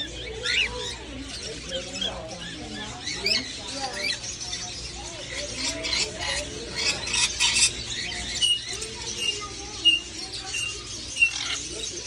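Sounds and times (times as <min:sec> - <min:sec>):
parrots squawking and chirping: 0:00.0 - 0:12.0.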